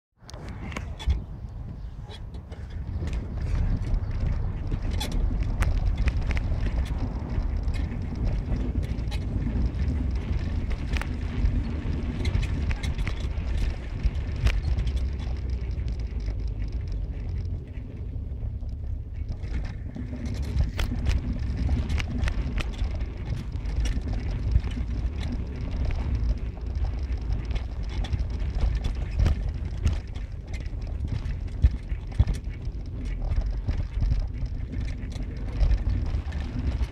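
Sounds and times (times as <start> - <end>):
engine and road rumble: 0.2 - 36.9
knocks and rattles from bumps: 0.4 - 36.9.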